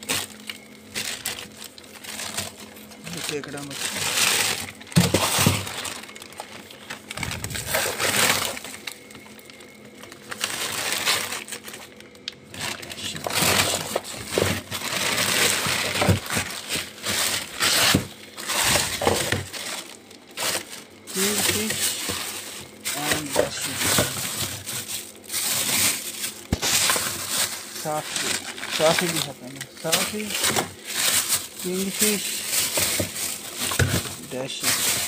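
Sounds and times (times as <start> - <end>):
plastic bags crinkling: 0.0 - 35.0.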